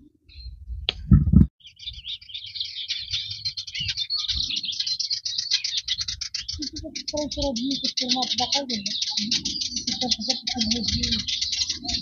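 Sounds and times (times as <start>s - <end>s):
small songbirds chirping: 0.0s - 0.8s, 1.6s - 12.0s.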